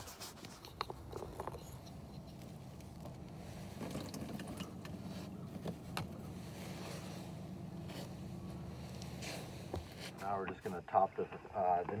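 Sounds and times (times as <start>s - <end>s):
steady low hum: 0.6s - 12.0s.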